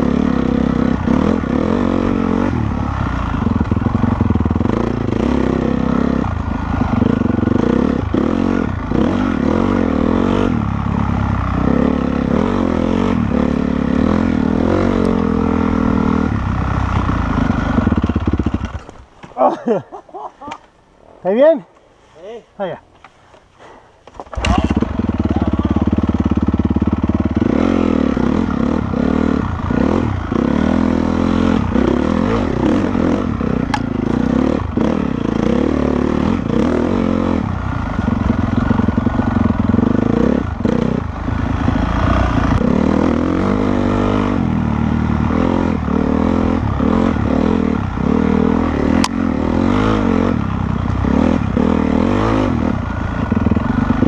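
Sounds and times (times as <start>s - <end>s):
motorcycle engine revving: 0.0s - 19.6s, 24.1s - 54.0s.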